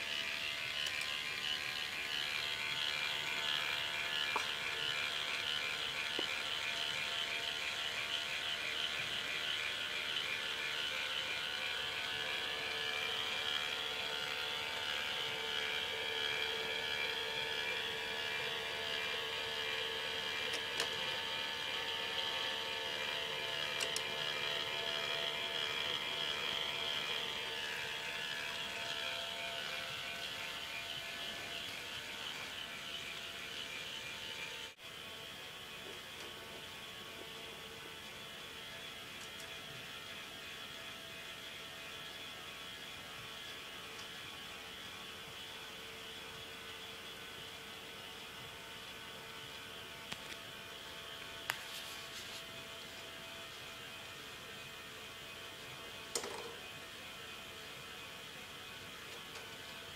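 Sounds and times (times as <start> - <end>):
motor and gears whirring: 0.0 - 59.9.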